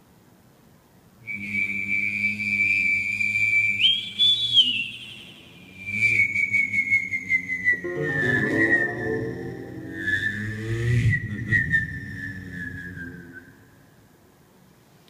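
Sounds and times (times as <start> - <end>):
high whistled note: 1.3 - 13.7.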